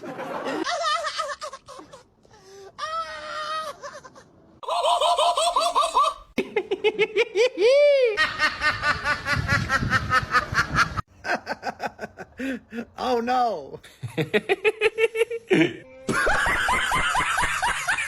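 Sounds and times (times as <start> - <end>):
human laughter: 0.0 - 2.1, 3.4 - 12.8, 14.0 - 18.0.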